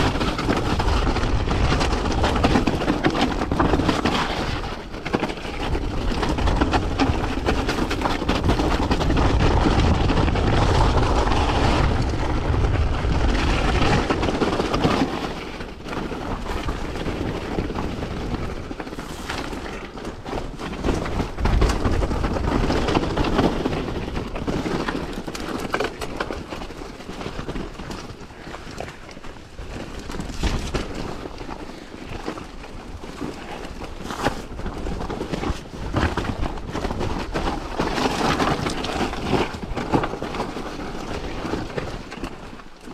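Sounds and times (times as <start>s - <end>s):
tyres crunching over gravel: 0.0s - 42.2s
bike rattling over rocks: 0.0s - 42.9s
wind rumble on microphone: 0.0s - 42.9s.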